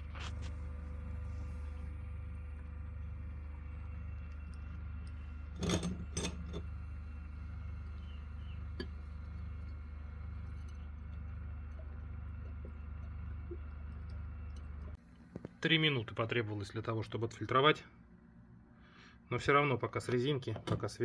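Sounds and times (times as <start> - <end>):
steady low hum: 0.0 - 20.5.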